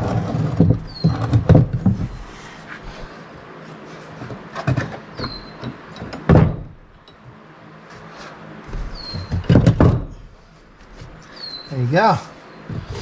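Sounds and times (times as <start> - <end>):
parts clunking and rattling: 0.0 - 3.1, 4.0 - 11.4, 12.6 - 13.0.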